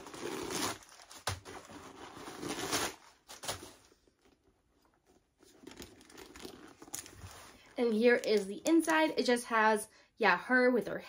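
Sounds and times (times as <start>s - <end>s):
packing stuffing rustling: 0.0s - 9.1s.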